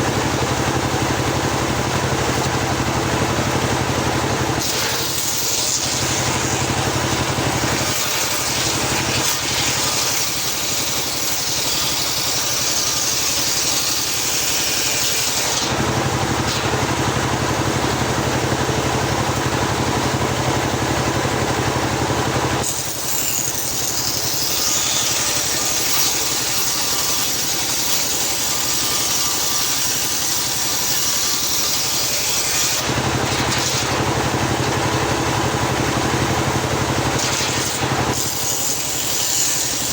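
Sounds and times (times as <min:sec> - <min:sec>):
circular saw running: 0:00.0 - 0:39.9
saw blade cutting log: 0:00.0 - 0:39.9.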